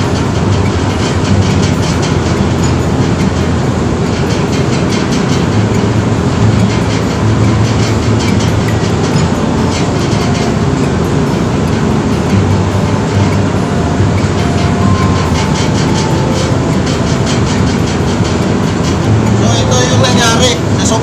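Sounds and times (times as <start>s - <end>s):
fast rattle: 0.0s - 21.0s
ship engines droning: 0.0s - 21.0s.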